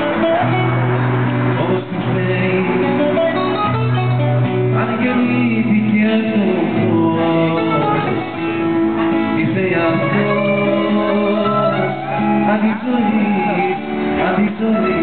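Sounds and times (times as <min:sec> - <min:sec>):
plucked string instruments: 0:00.0 - 0:15.0
person singing: 0:01.4 - 0:15.0.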